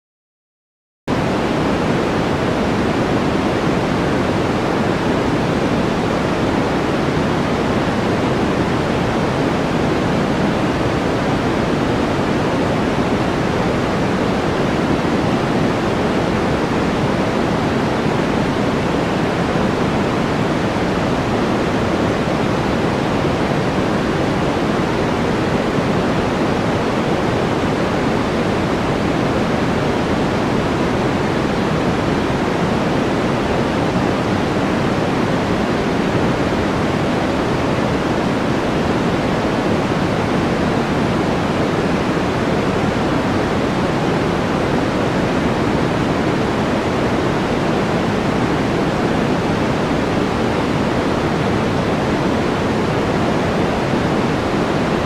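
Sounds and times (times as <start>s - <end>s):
white noise hiss: 1.1s - 55.0s.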